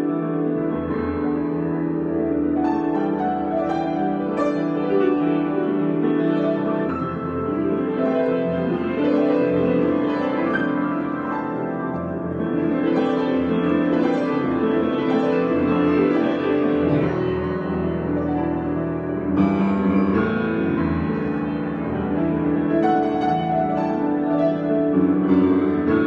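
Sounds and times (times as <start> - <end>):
slow piano improvisation: 0.0 - 26.0.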